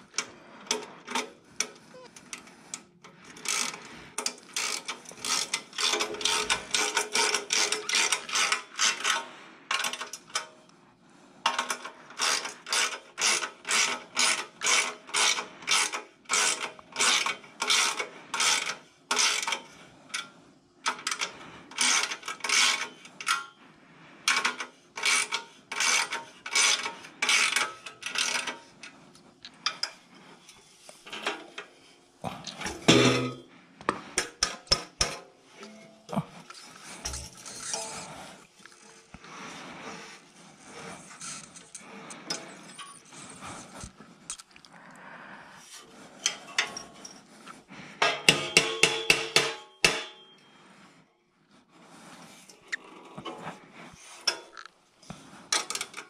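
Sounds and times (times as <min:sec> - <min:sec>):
wrench clicking and scraping: 0:00.0 - 0:10.6, 0:11.4 - 0:23.6, 0:24.2 - 0:39.3, 0:40.8 - 0:44.5, 0:46.2 - 0:50.5, 0:54.0 - 0:56.0.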